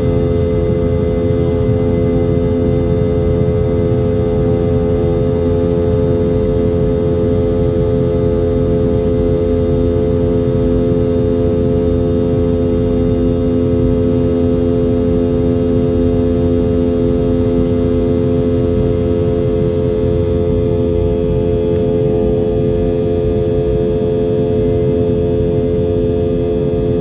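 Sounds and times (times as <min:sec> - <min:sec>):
jet engine cabin drone: 0:00.0 - 0:27.0.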